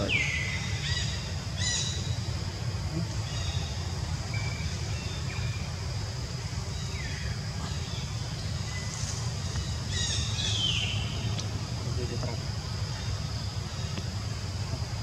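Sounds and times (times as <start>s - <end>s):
birds making falling calls: 0.0s - 14.6s
steady low rumble: 0.0s - 15.0s.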